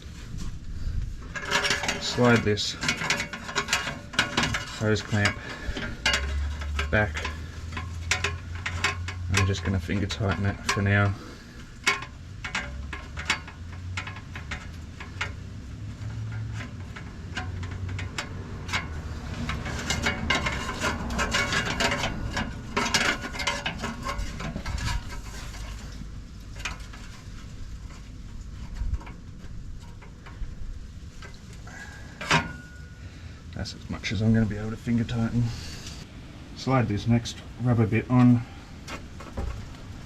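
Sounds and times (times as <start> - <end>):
metal rubbing and scraping: 0.0 - 33.0.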